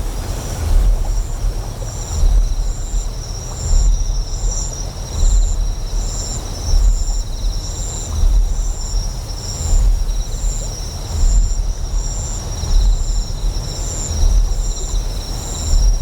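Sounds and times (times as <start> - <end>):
deep generator hum: 0.0 - 16.0.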